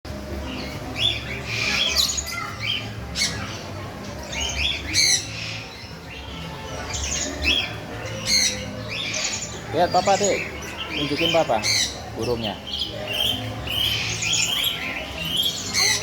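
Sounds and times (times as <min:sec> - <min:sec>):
birds squawking: 0:00.4 - 0:16.0.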